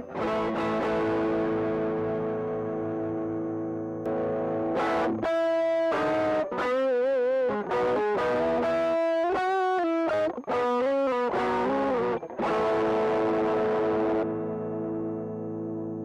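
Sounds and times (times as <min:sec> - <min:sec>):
electric guitar lead notes: 0:00.0 - 0:16.0.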